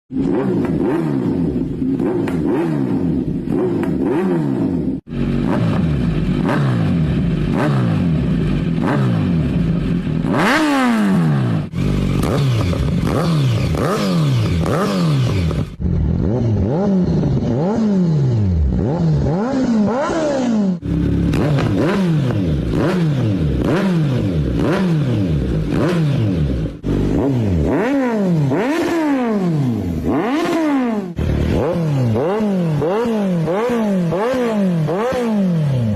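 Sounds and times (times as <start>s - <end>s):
motorcycle engine revving: 0.1s - 35.9s.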